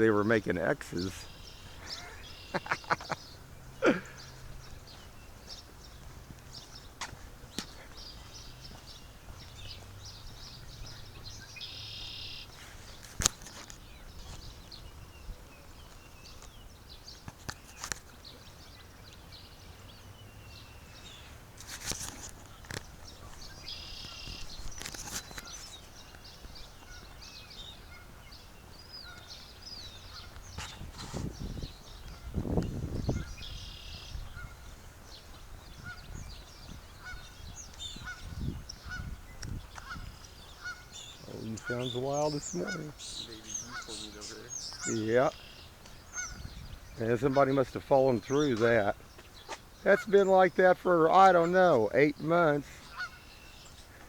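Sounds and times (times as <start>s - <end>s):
birds chirping: 0.0s - 54.0s
harsh bird calls: 0.0s - 54.0s.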